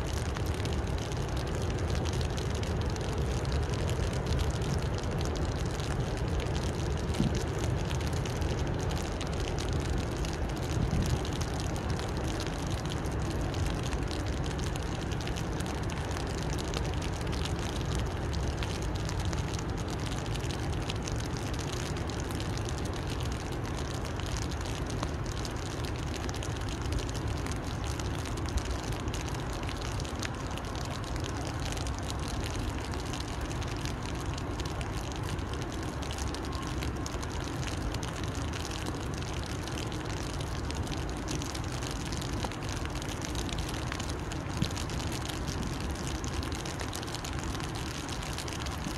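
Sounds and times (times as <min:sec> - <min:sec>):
rain falling on river: 0:00.0 - 0:48.9.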